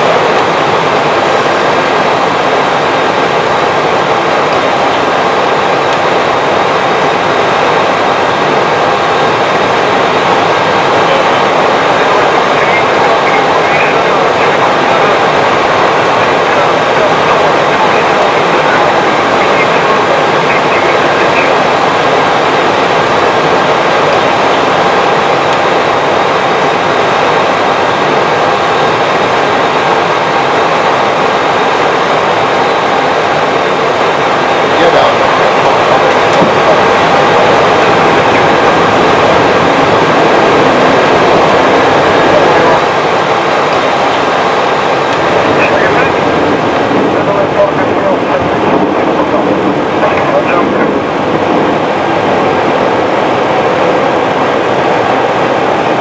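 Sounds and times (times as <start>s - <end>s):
aircraft cockpit rushing noise: 0.0s - 56.0s
faint steady tones: 0.0s - 56.0s.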